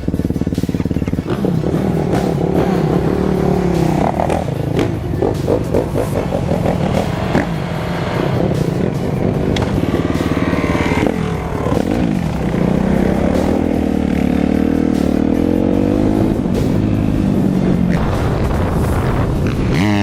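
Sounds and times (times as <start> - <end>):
off-road engines revving: 0.0 - 20.0.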